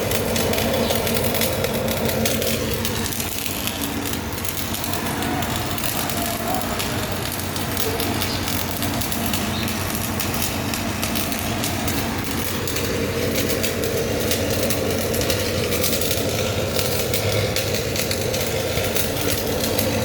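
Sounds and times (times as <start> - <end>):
steady low hum: 0.0 - 20.0
welding arc crackling: 0.0 - 20.0.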